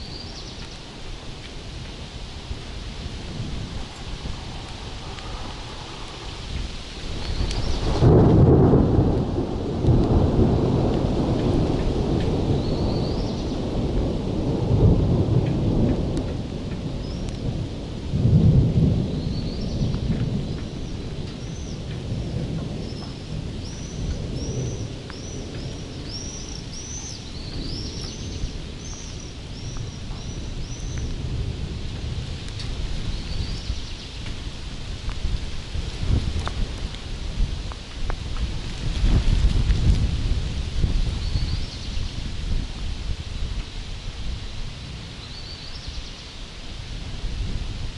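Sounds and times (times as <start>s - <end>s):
heavy rain hissing: 0.0s - 47.9s
low rumble of storm: 0.0s - 47.9s
rolling thunder: 1.2s - 45.9s.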